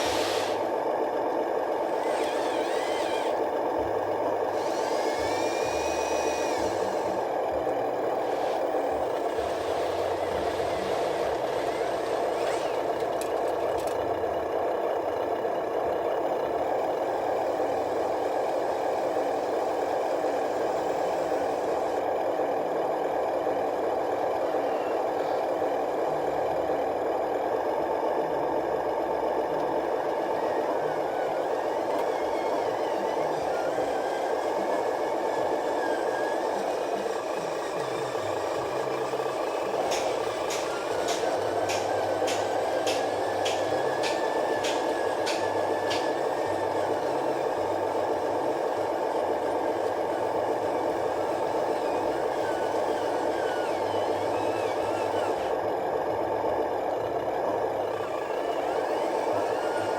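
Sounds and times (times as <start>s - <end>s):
toy truck motor fluttering: 0.0s - 15.5s, 23.3s - 27.6s, 29.4s - 56.8s, 57.4s - 59.9s.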